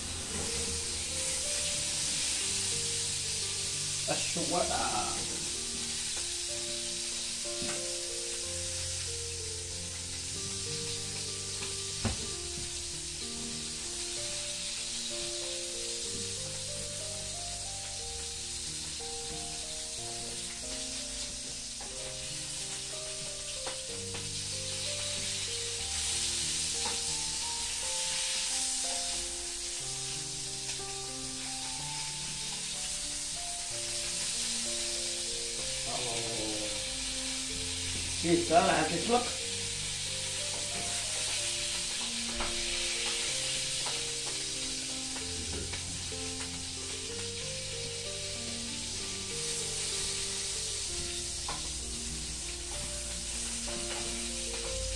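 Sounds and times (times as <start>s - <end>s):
food sizzling in frying pan: 0.0s - 54.9s
soft background music: 0.0s - 54.9s
soft melody: 0.0s - 54.9s.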